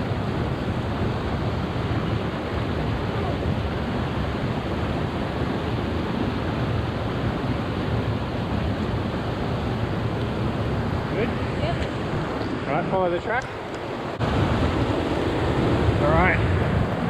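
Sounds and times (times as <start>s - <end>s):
creek rushing over rocks: 0.2s - 17.0s.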